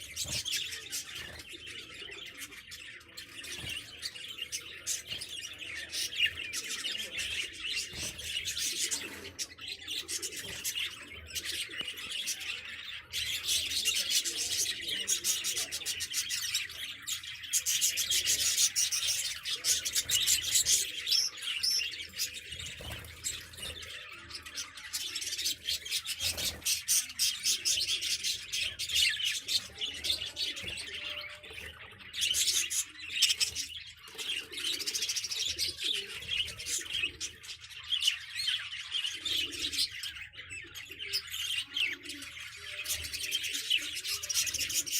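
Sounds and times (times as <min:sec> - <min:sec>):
budgerigars chattering and chirping: 0:00.0 - 0:44.9.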